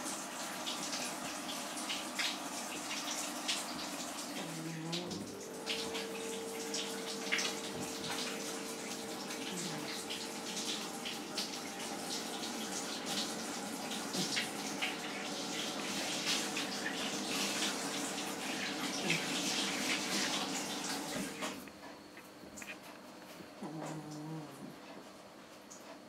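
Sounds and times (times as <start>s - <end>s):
water running from a tap: 0.0s - 21.6s.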